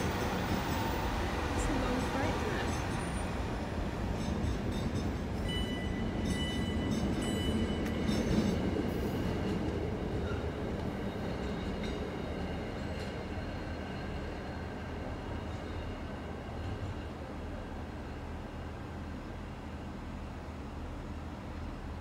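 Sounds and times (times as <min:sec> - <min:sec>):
freight train wagons rumbling: 0:00.0 - 0:22.0.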